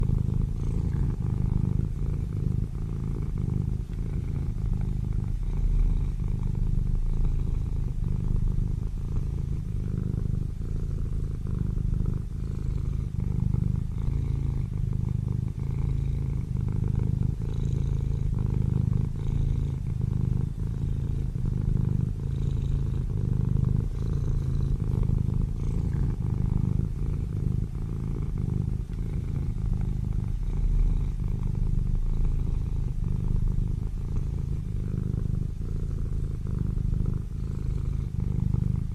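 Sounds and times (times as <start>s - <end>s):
kittens purring: 0.0s - 38.9s.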